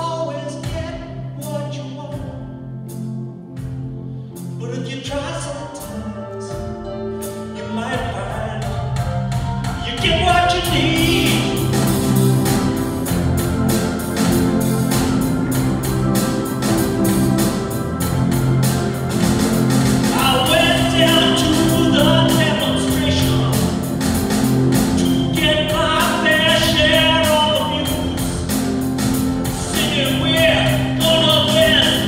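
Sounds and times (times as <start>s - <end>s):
live band with guitars: 5.7s - 32.0s.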